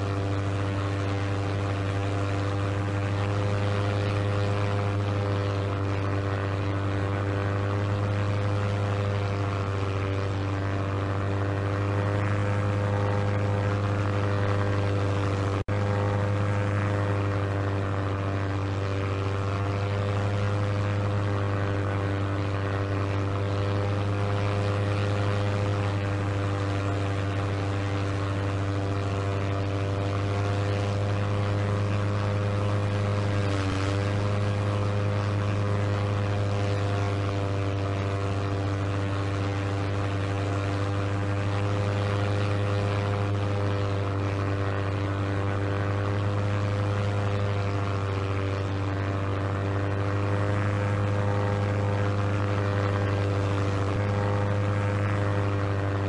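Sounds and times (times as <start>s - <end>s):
propeller aeroplane engine droning: 0.0s - 56.0s.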